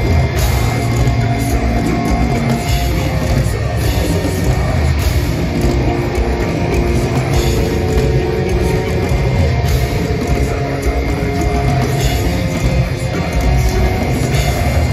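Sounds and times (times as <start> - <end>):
heavy metal band playing live: 0.0 - 14.9.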